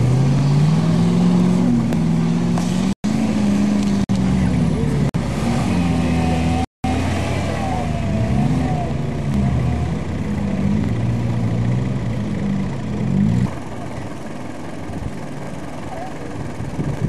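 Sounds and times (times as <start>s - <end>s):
off-road engines revving: 0.0s - 17.0s.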